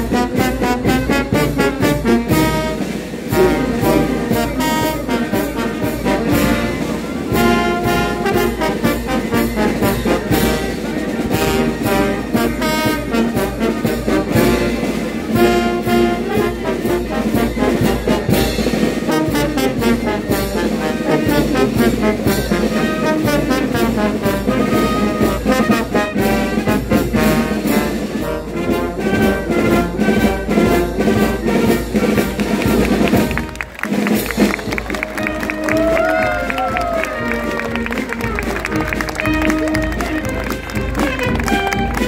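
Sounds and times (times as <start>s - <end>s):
brass band playing: 0.0s - 42.0s.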